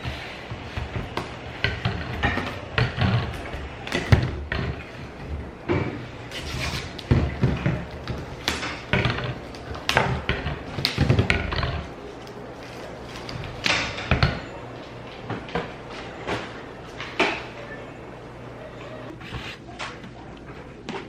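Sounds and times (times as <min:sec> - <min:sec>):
objects knocking and thudding: 0:00.0 - 0:17.6.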